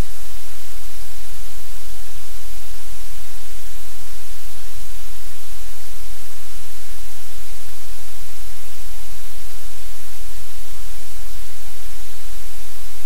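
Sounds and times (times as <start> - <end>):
loud static hiss: 0.0 - 13.0.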